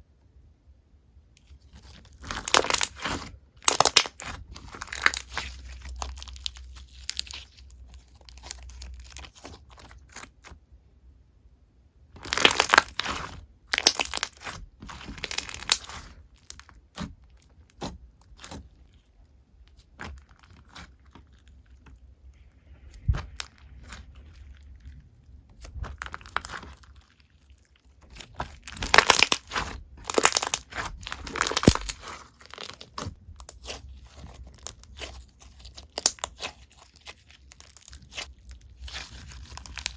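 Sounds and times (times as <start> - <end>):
slime crackling and popping: 1.4 - 10.6, 12.2 - 39.9.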